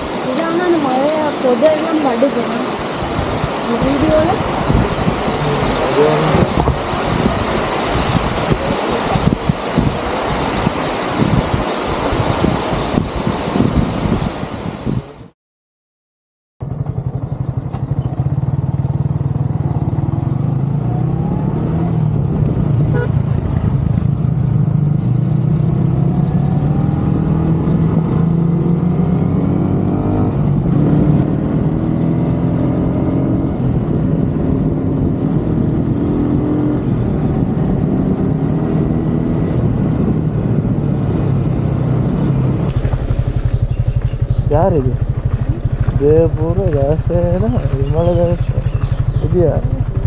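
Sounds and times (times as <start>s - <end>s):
vehicle engine accelerating: 0.0s - 14.2s, 16.6s - 50.0s.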